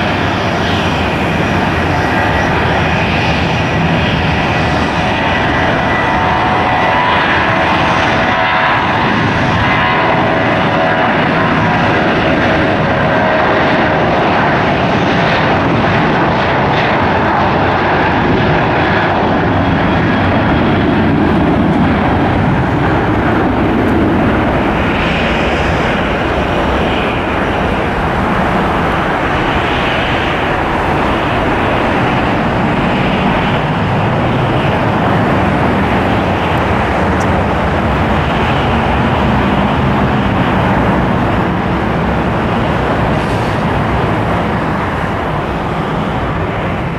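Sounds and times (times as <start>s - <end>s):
airliner engines roaring: 0.0s - 46.9s.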